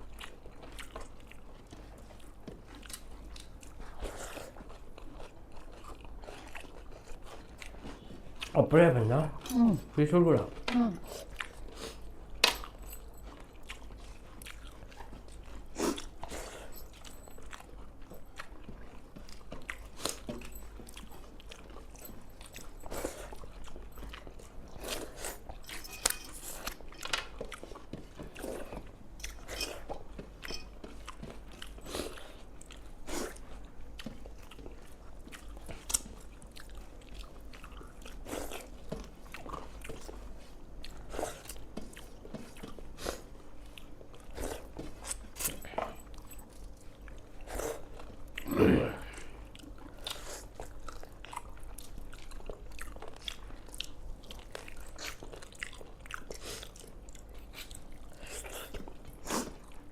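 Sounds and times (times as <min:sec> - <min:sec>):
people chewing crunchy food: 0:00.0 - 0:59.9.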